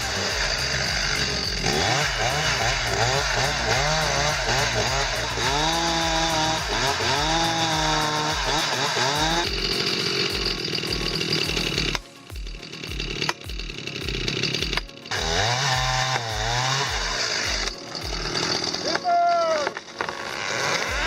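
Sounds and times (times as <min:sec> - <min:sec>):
chainsaw revving under load: 0:00.0 - 0:21.0.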